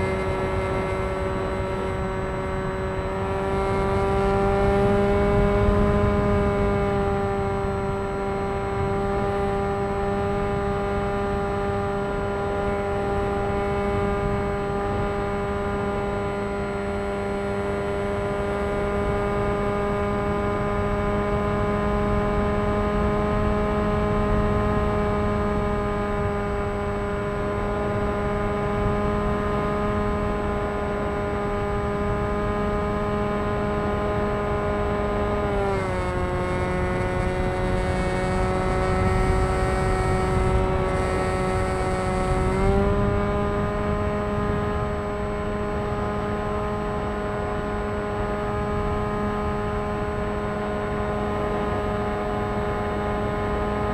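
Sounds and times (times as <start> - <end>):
model plane electric motor whine: 0.0 - 53.9.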